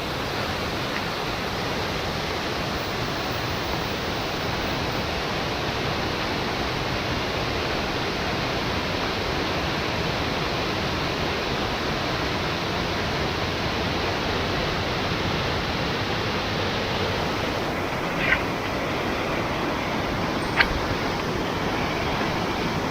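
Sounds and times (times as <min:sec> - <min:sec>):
fast-flowing mountain stream: 0:00.0 - 0:22.9.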